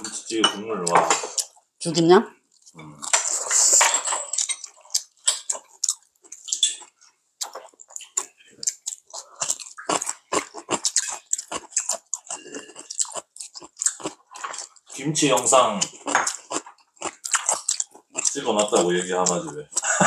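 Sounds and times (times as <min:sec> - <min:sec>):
people chewing and lip smacking: 0:00.8 - 0:01.7, 0:02.5 - 0:20.0.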